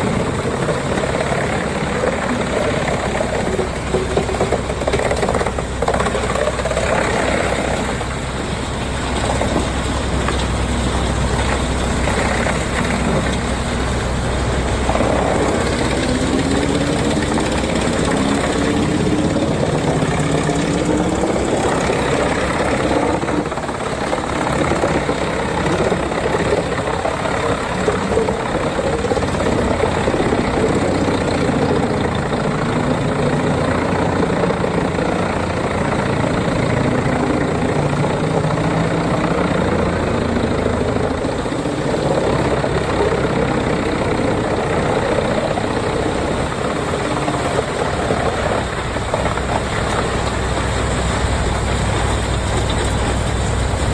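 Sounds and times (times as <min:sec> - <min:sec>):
wood chipper running: 0:00.0 - 0:53.9.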